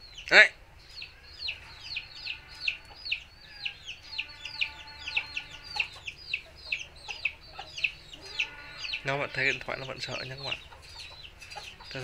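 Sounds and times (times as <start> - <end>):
bird chirping downward: 0.0 - 12.0.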